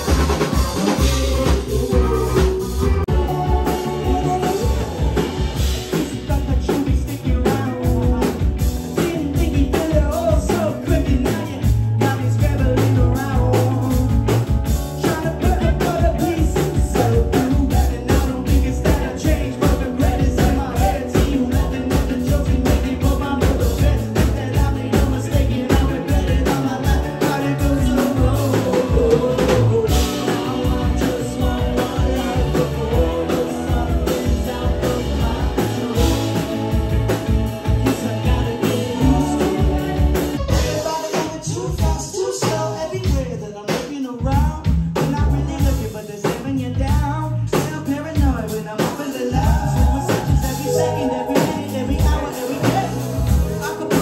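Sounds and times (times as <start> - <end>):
drum kit beat: 0.0 - 54.0
person singing: 0.0 - 54.0
rock band playing: 0.0 - 54.0.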